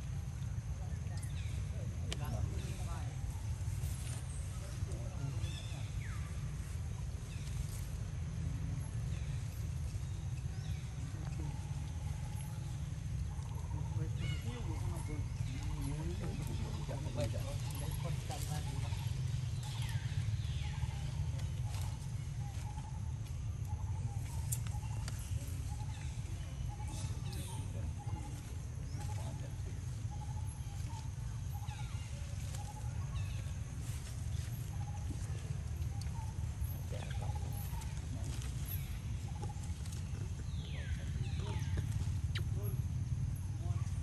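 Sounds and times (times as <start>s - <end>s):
distant voices: 0.0s - 44.0s
steady low rumble: 0.0s - 44.0s.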